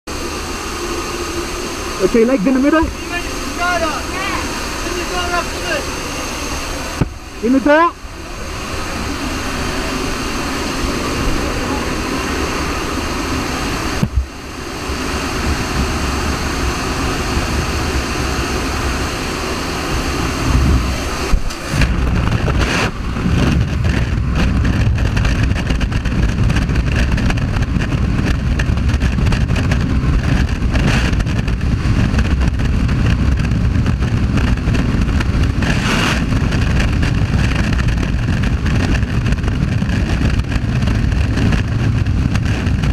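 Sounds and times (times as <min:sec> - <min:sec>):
wind buffeting microphone: 0:00.1 - 0:42.9.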